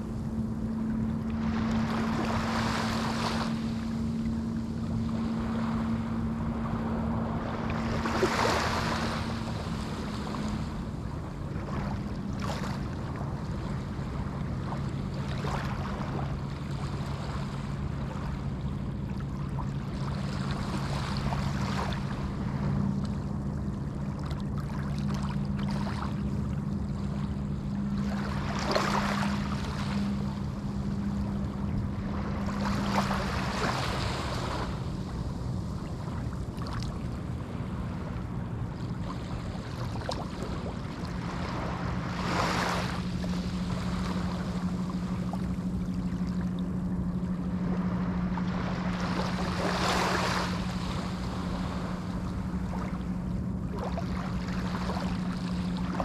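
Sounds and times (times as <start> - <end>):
low steady drone: 0.0 - 56.0
waves breaking on beach: 0.0 - 56.0.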